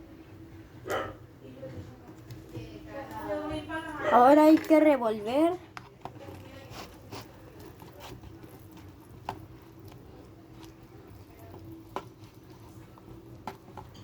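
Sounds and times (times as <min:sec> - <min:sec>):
low steady hum: 0:00.0 - 0:14.0
noodles squishing while stirred: 0:01.9 - 0:14.0.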